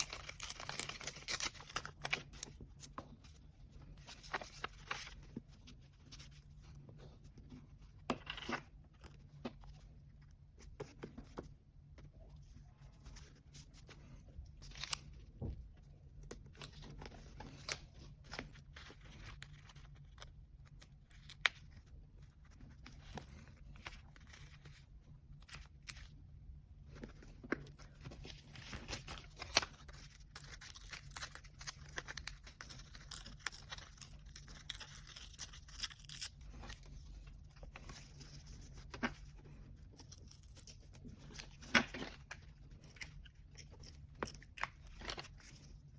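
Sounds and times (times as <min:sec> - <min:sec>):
low room hum: 0:00.0 - 0:45.9.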